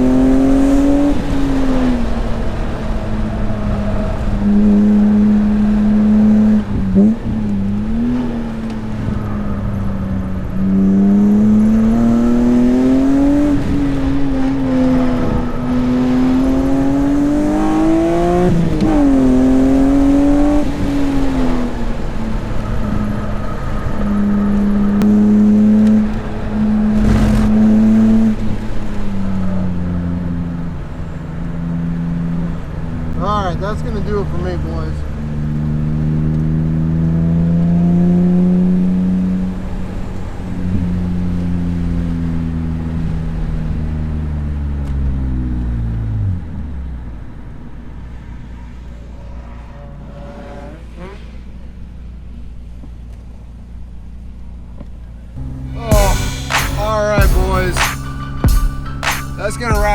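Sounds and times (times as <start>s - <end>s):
car engine accelerating and shifting: 0.0s - 57.5s.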